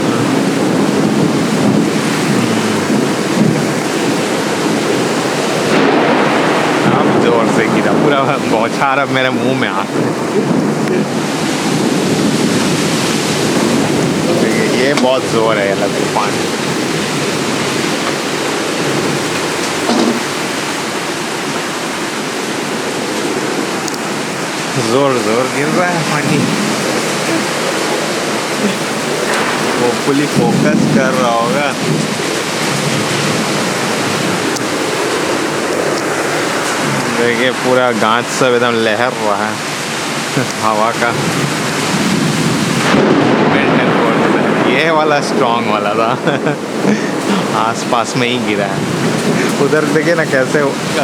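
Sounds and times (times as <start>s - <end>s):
low rumble of thunder: 0.0s - 38.4s, 39.5s - 51.0s
heavy rain pouring: 0.0s - 51.0s.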